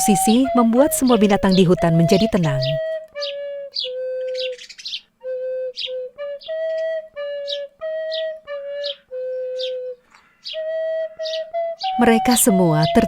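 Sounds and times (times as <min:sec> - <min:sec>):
birds chirping: 0:00.0 - 0:13.0
gentle flute melody: 0:00.0 - 0:13.0.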